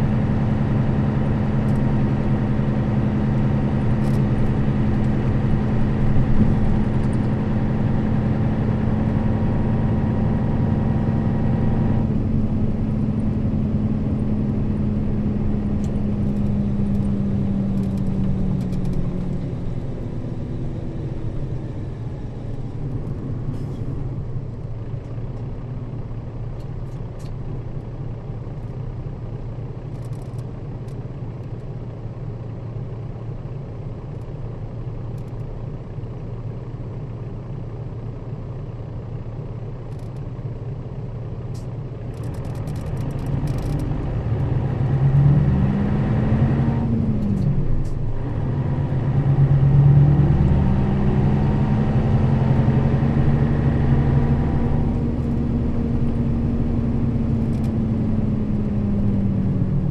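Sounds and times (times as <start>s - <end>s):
bus engine droning: 0.0s - 59.9s
road rumble: 0.0s - 59.9s.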